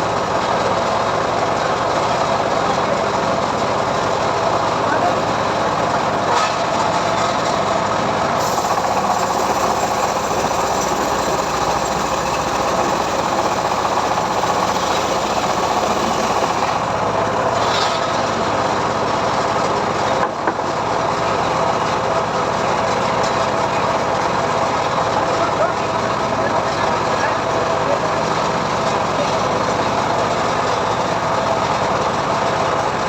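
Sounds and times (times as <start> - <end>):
sawmill engine and saw running: 0.0 - 33.0.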